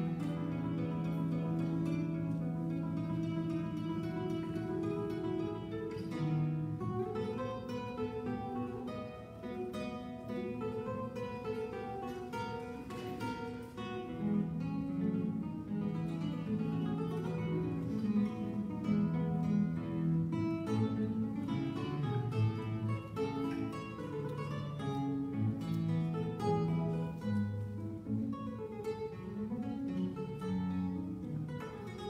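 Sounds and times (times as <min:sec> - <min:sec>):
classical guitar plucked notes: 0:00.0 - 0:32.0.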